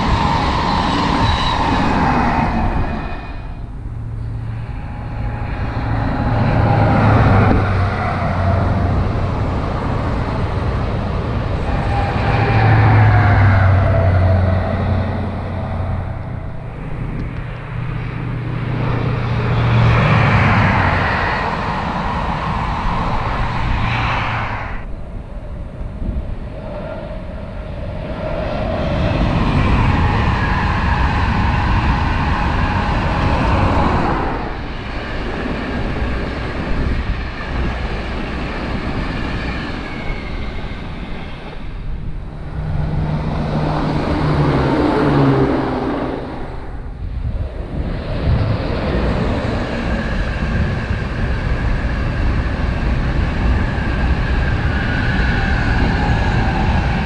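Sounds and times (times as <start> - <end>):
diesel train engine drone: 0.0 - 57.0
train coaches rushing on rails: 0.0 - 57.0.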